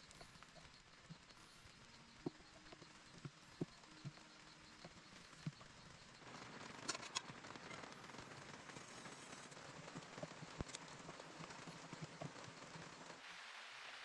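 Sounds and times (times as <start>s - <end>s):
light rain pattering: 0.0s - 14.0s.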